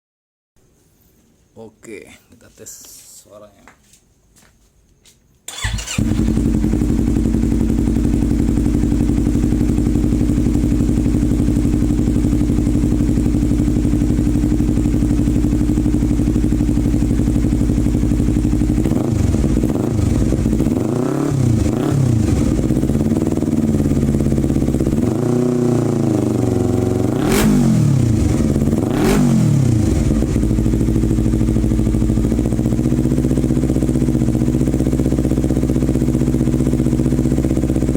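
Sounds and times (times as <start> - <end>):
motorcycle engine revving: 5.5 - 37.9
motorcycle idling: 5.5 - 37.9.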